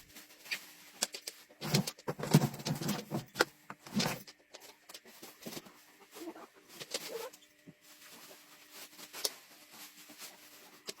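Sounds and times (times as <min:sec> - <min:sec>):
dog rooting through plastic packaging: 0:00.0 - 0:11.0.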